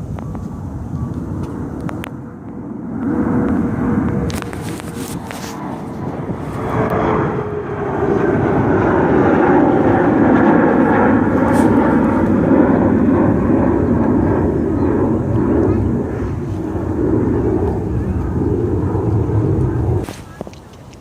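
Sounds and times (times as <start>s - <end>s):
jet engines passing close: 0.0s - 21.0s.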